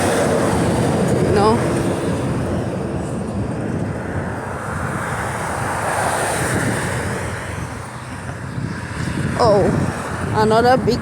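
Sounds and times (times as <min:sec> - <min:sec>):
rumbling background noise: 0:00.0 - 0:11.0.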